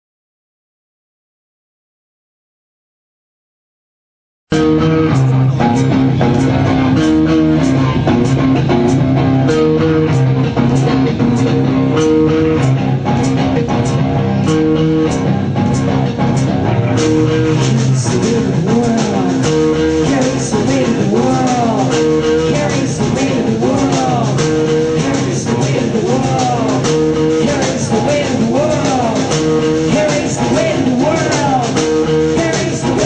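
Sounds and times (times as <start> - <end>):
bass guitar: 4.5 - 33.0
drum kit: 4.5 - 33.0
electric guitar riff: 4.5 - 33.0.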